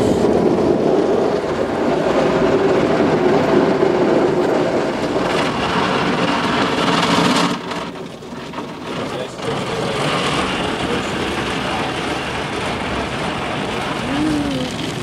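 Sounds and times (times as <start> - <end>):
car wash brushes scrubbing: 0.0 - 15.0.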